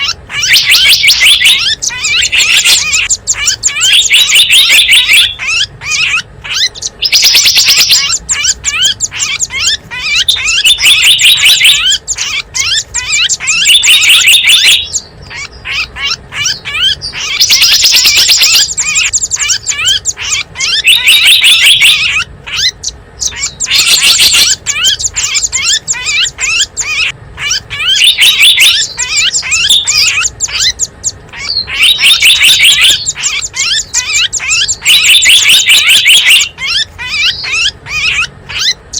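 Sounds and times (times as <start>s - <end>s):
buzzy bird trills: 0.0s - 38.9s
small birds chirping: 0.0s - 38.9s.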